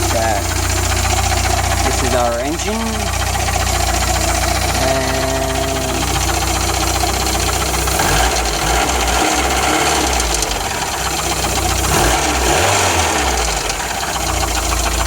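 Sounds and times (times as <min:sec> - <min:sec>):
car engine idling: 0:00.0 - 0:15.0
ticking hydraulic lifters: 0:00.0 - 0:15.0.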